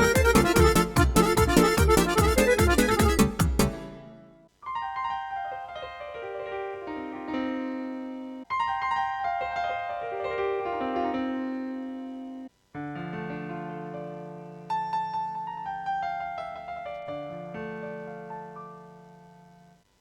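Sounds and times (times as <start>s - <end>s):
keyboard accompaniment music: 0.0s - 12.5s, 13.4s - 19.8s
keyboard piano phrase: 0.0s - 19.7s.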